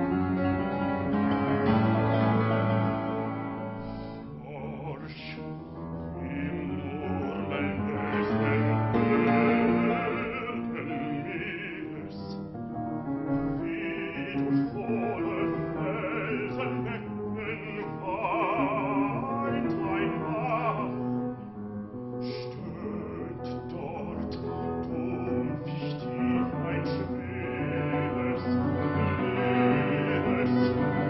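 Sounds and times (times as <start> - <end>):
grand piano accompaniment: 0.0 - 31.0
man singing operatically: 4.2 - 21.3, 22.2 - 31.0.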